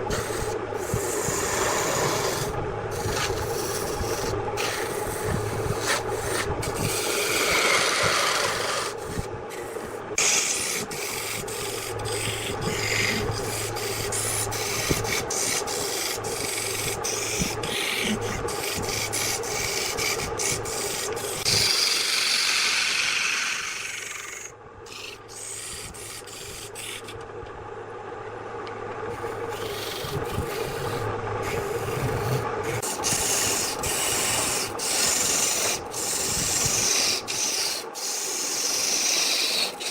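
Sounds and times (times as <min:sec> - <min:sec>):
tool rasping against wood: 0:00.0 - 0:27.2, 0:29.2 - 0:39.9
wood lathe humming: 0:00.0 - 0:27.3, 0:29.1 - 0:39.9.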